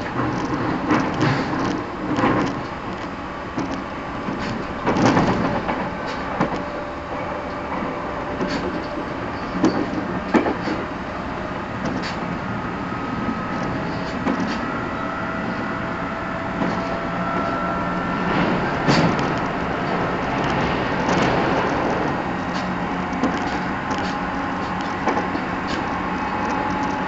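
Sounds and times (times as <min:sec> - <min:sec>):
train cabin rumble and hiss: 0:00.0 - 0:27.0.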